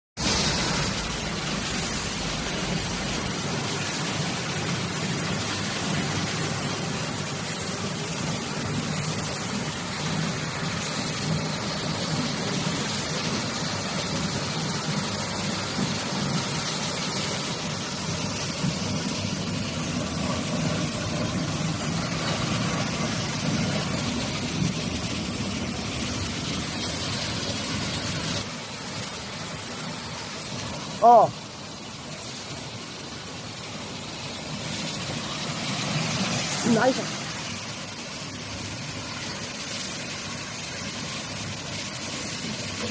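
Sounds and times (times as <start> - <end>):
washing machine hum and hiss: 0.2 - 42.9.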